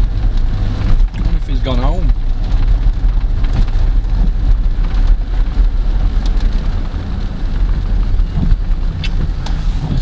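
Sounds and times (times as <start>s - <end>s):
car driving heard from inside: 0.0s - 10.0s
rain and wet tyres hissing: 0.0s - 10.0s.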